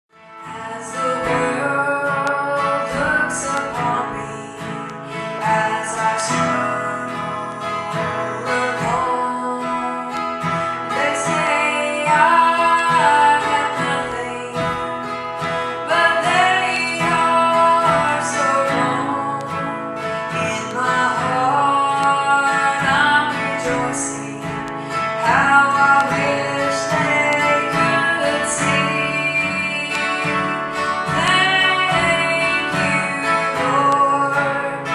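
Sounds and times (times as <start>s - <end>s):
country guitar music: 0.1s - 34.9s.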